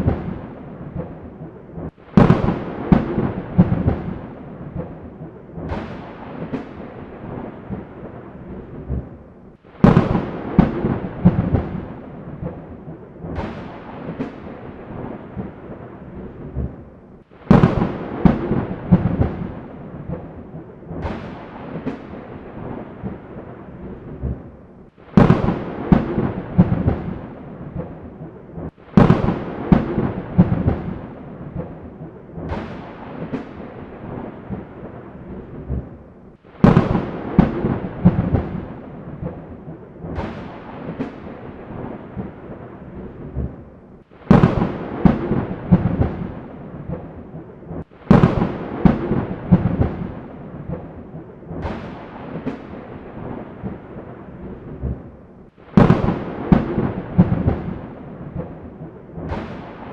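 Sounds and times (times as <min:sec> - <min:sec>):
thunder rolling: 0:00.0 - 0:59.9.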